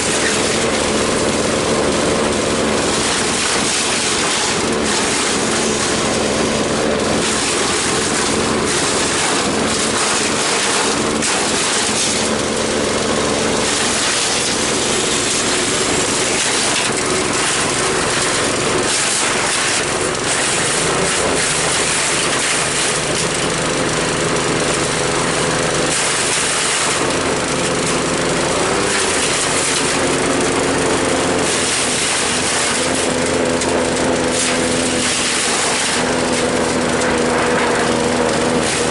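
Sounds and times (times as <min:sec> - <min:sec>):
hiss of leaves being cut: 0:00.0 - 0:38.9
small engine running: 0:00.0 - 0:38.9.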